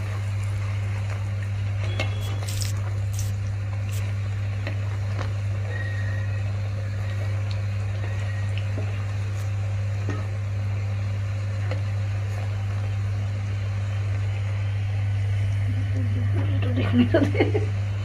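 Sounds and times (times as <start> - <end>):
oil sizzling: 0.0 - 16.2.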